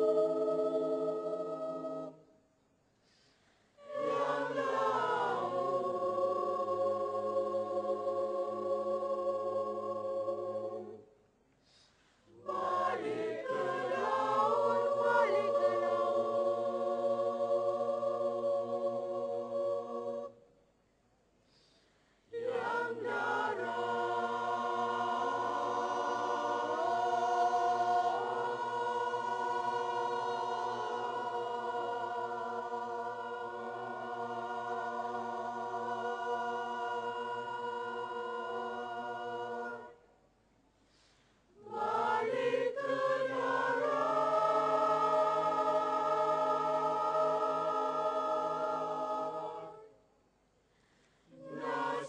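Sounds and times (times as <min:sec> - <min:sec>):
mixed choir singing held chords: 0:00.0 - 0:02.4, 0:03.8 - 0:11.2, 0:12.3 - 0:20.5, 0:22.3 - 0:40.1, 0:41.5 - 0:50.1, 0:51.3 - 0:52.0.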